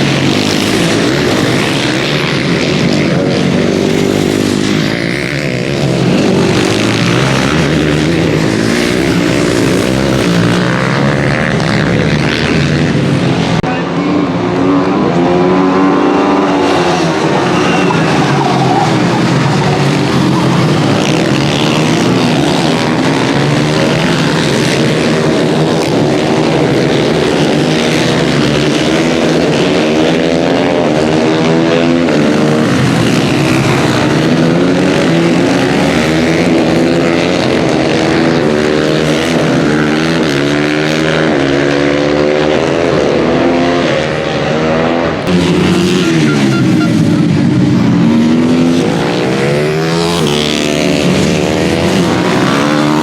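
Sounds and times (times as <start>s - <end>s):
racing motorcycle engines: 0.0s - 53.0s.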